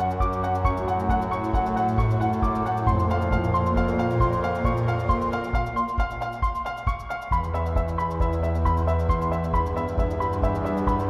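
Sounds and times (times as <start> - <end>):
background music with kick drum: 0.0 - 11.0.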